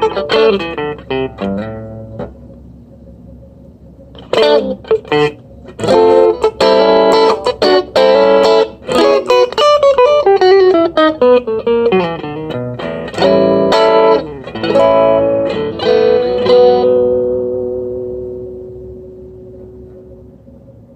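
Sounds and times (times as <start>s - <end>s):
electric guitar chords: 0.0s - 2.6s, 4.1s - 20.8s.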